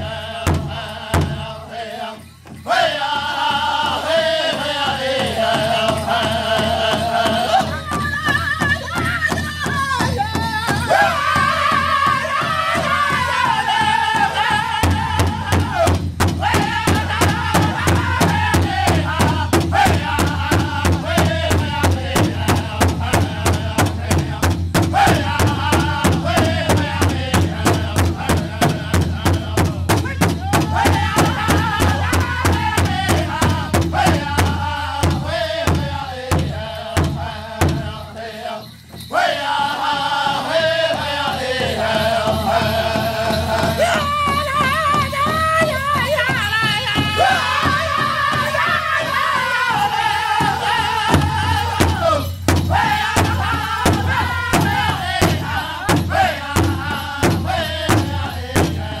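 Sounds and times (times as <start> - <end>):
large drum beating: 0.0 - 1.7, 2.4 - 38.2, 40.2 - 59.0
men singing in unison: 0.0 - 59.0.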